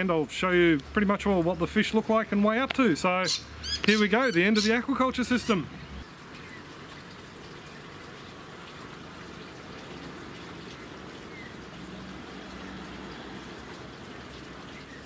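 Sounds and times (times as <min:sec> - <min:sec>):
water running and splashing: 0:00.0 - 0:15.0.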